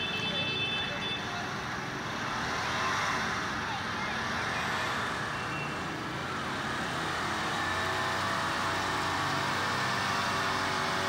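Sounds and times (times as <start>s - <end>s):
vehicle engines running: 0.0s - 11.0s.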